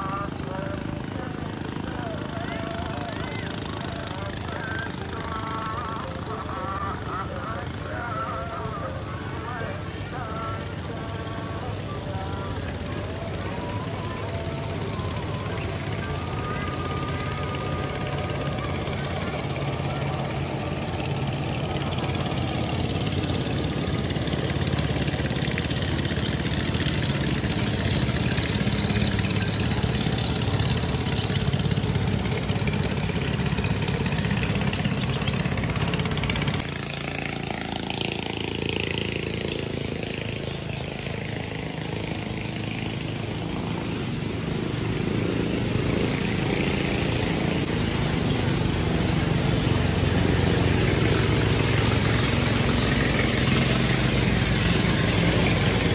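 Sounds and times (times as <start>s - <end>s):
motor engine running: 0.0s - 55.9s
broad rushing noise: 8.6s - 55.9s.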